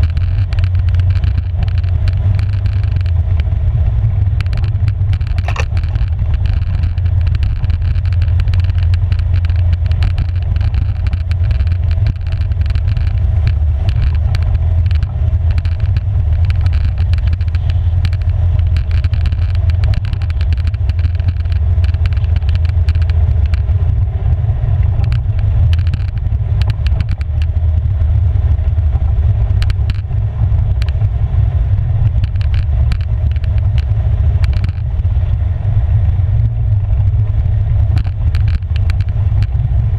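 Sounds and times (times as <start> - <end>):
small clicks and knocks: 0.0 - 24.0, 24.7 - 31.2, 32.0 - 35.4, 36.9 - 39.9
atv engine running: 0.0 - 39.9.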